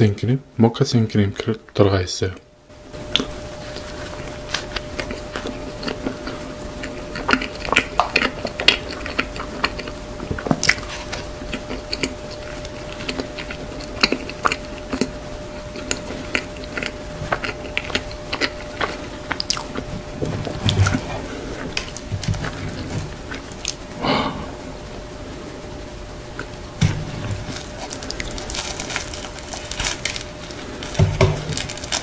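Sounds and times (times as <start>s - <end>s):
faint steady hum: 0.0s - 32.0s
biting and chewing bun: 3.0s - 23.9s, 26.4s - 32.0s.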